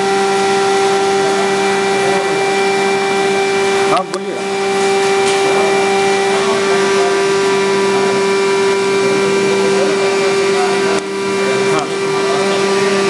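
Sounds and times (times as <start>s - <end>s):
machine motor humming and whining: 0.0s - 13.0s.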